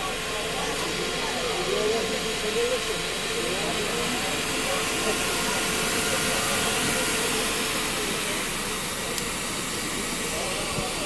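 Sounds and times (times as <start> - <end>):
blower fan running: 0.0 - 11.0.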